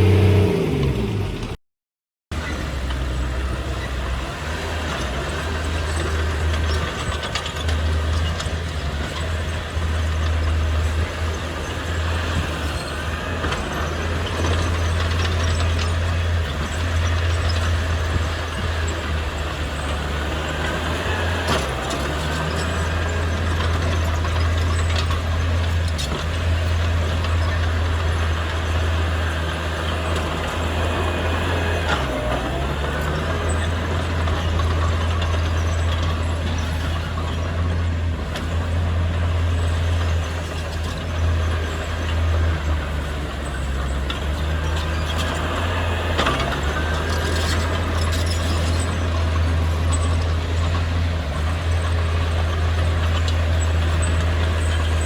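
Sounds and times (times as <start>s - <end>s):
heavy diesel engine running: 0.0s - 1.6s, 2.3s - 55.0s.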